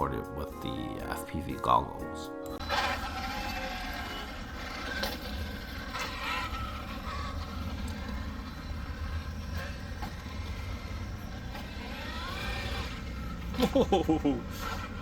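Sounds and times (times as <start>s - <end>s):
rc car motor whining: 2.6s - 15.0s.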